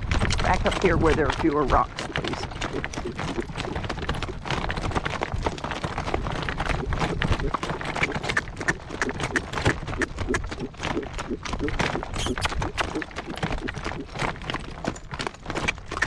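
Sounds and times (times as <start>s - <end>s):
horse hooves on rocky track: 0.0s - 16.0s.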